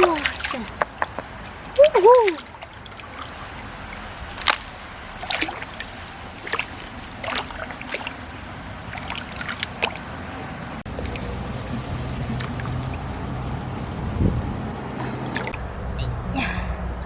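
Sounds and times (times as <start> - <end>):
sharp splashes or knocks: 0.0 - 15.6
water sloshing and trickling: 0.0 - 15.6.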